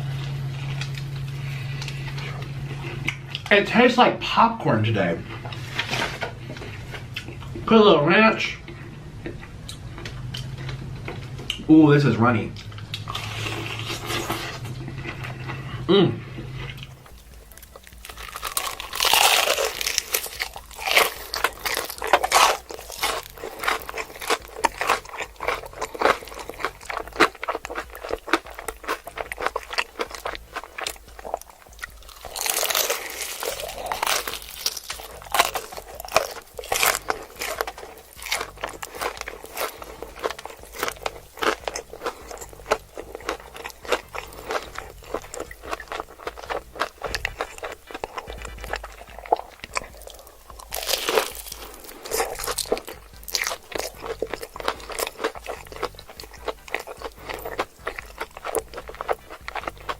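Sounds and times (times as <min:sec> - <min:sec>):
crunching of fried chicken: 0:00.0 - 0:08.7, 0:09.3 - 0:59.9.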